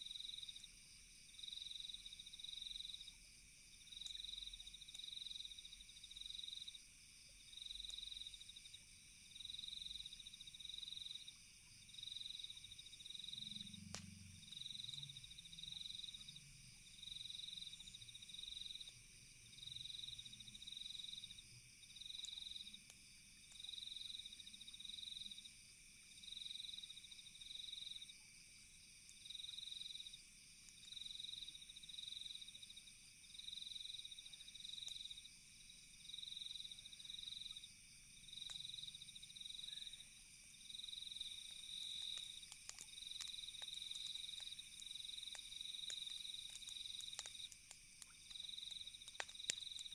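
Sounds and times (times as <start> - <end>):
cricket chirping: 0.0 - 49.9
night insects droning: 0.0 - 49.9.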